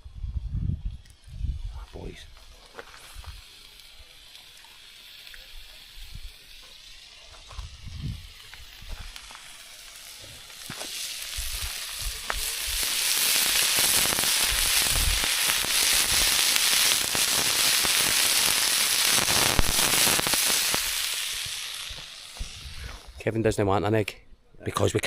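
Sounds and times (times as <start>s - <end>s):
steak sizzling in a frying pan: 2.4s - 23.1s.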